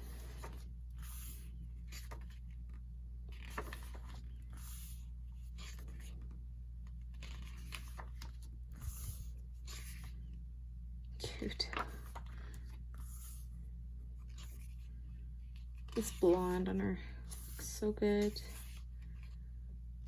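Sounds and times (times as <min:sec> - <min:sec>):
steady low hum: 0:00.0 - 0:20.0
paper pages turning: 0:00.1 - 0:10.4, 0:11.5 - 0:13.5, 0:14.2 - 0:19.5.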